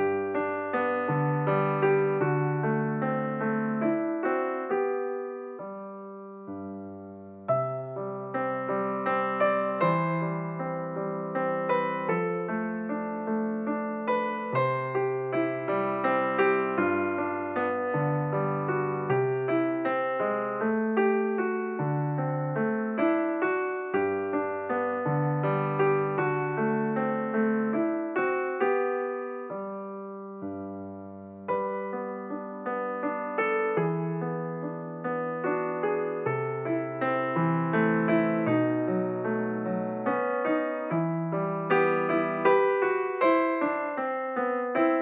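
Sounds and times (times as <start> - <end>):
gentle piano music: 0.0 - 45.0.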